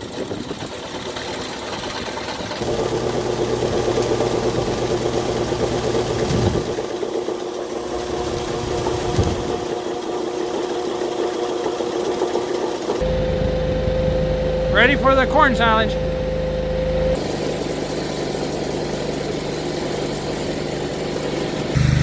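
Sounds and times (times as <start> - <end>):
farm machinery engine droning: 0.0 - 22.0.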